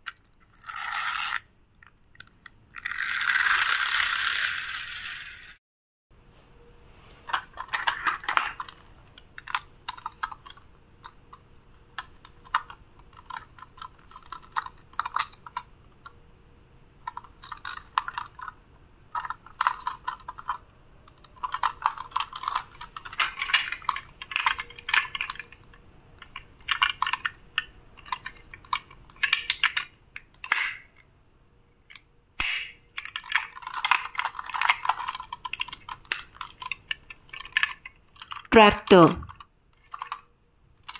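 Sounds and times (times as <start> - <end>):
plastic toy vehicles clattering: 0.0 - 5.6, 7.2 - 16.2, 17.0 - 31.0, 31.8 - 40.9.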